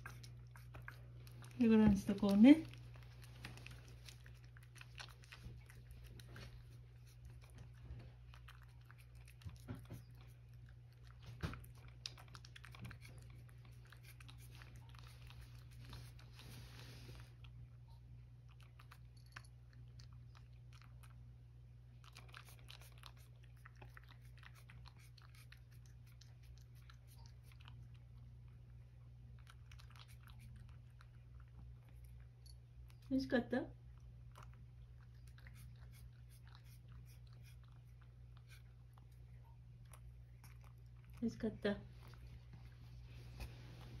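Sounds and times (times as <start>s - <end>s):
cat chewing food: 0.0s - 44.0s
steady low hum: 0.0s - 44.0s.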